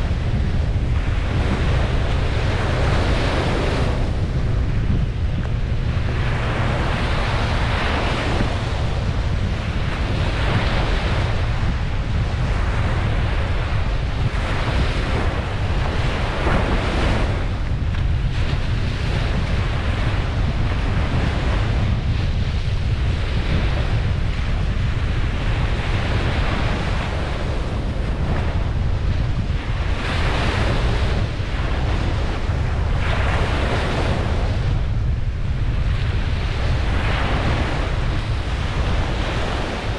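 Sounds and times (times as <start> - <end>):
ocean waves breaking on beach: 0.0 - 39.9
wind rumble on microphone: 0.0 - 39.9.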